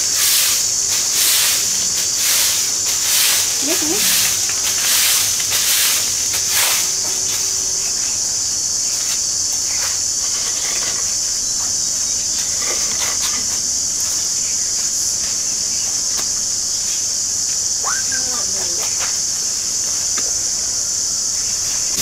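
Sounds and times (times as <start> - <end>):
broom sweeping dirt: 0.0 - 20.6, 21.2 - 22.0
insects shrilling: 0.0 - 22.0.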